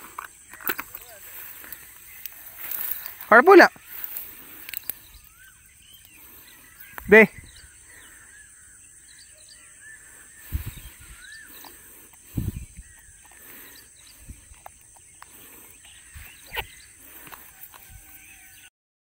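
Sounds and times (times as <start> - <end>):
birds whistling: 0.0 - 18.7
open field ambience: 0.0 - 18.7.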